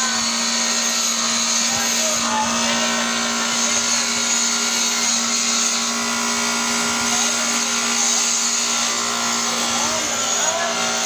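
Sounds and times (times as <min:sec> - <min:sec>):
bench grinder motor hum: 0:00.0 - 0:11.0.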